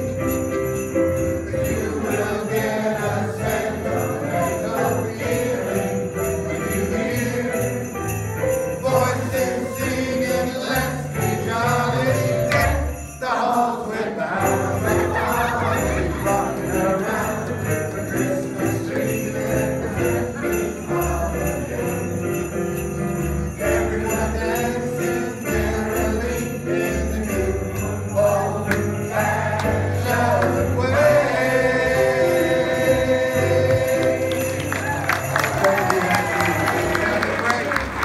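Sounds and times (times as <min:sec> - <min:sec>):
jingling sleigh bells: 0:00.0 - 0:38.0
man and boy singing: 0:01.5 - 0:07.9, 0:08.8 - 0:22.2, 0:23.6 - 0:34.7.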